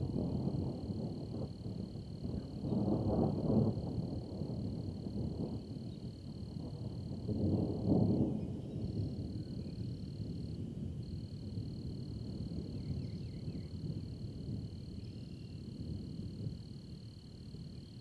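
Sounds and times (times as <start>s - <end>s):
thunder rumbling: 0.0s - 15.0s
high-pitched insect trill: 0.0s - 18.0s.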